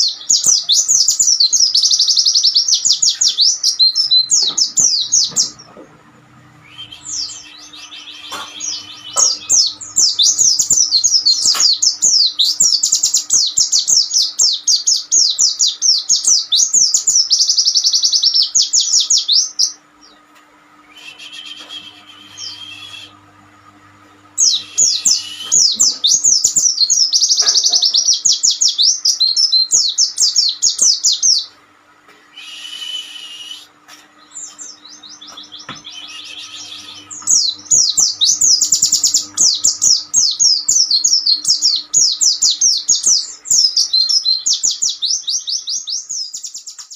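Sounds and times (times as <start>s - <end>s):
birds twittering: 0.0s - 31.6s, 32.3s - 46.9s
faint steady hum: 0.0s - 46.9s.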